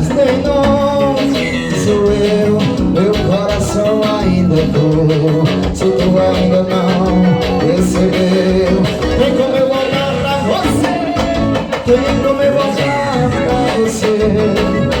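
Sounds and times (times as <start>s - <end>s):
forro music with melodic lead: 0.0s - 15.0s.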